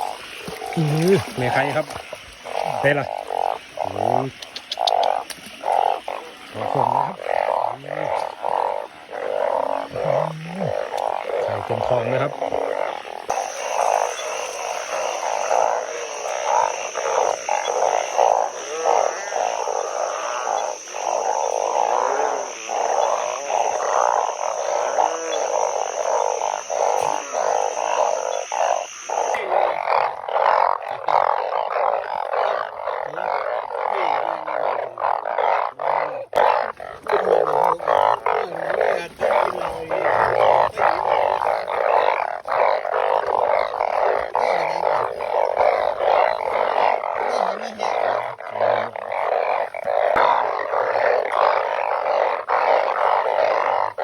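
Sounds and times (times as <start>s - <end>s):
frog chorus: 0.0s - 54.0s.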